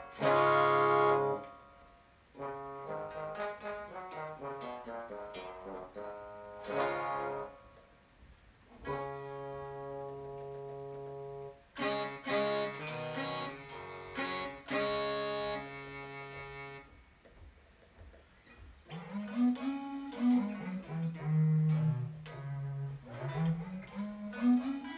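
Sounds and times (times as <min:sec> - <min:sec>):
synthesized instrument notes: 0:00.0 - 0:08.1, 0:08.7 - 0:17.1, 0:18.6 - 0:24.9.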